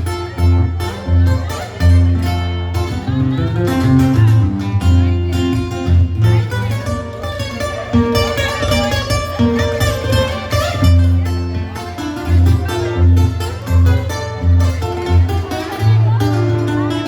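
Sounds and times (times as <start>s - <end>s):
band music with plucked strings: 0.0s - 17.0s
pulsing bass line: 0.0s - 17.0s.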